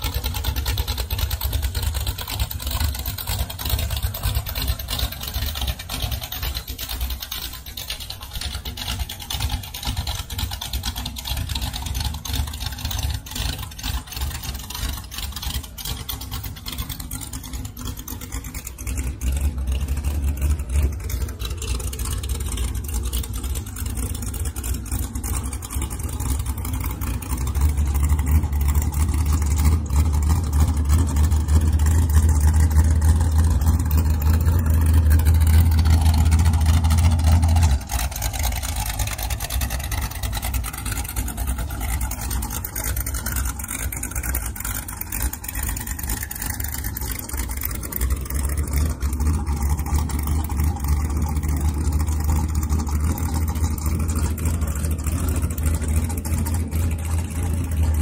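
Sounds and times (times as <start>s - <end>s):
boat engines idling: 0.0s - 58.0s.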